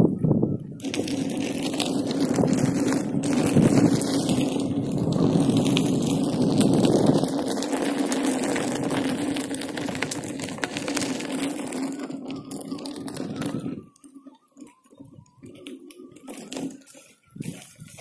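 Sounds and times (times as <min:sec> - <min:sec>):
wind on microphone: 0:00.0 - 0:14.0, 0:17.3 - 0:18.0
tyre rolling over gravel: 0:00.8 - 0:13.8, 0:15.4 - 0:18.0.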